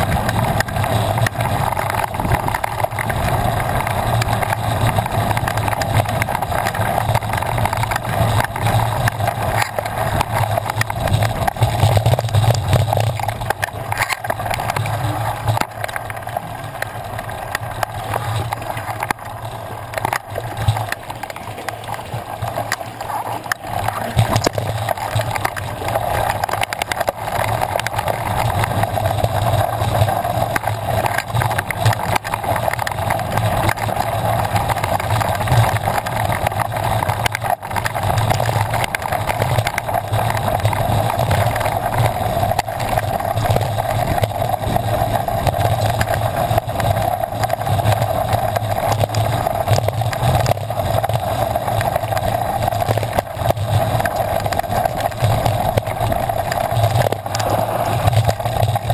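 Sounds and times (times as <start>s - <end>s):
bike rattling over bumps: 0.0s - 58.9s
wind and tyre noise: 0.0s - 58.9s.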